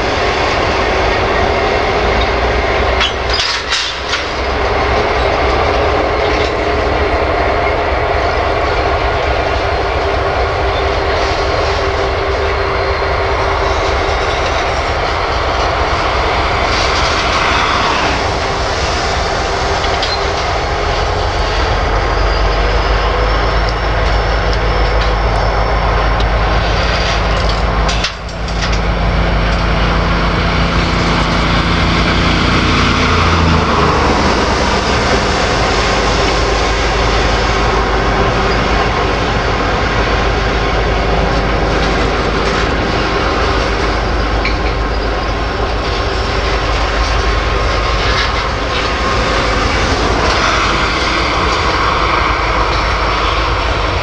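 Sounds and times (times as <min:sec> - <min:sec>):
freight train rolling past: 0:00.0 - 0:54.0
steel wheels rumbling on rails: 0:00.0 - 0:54.0.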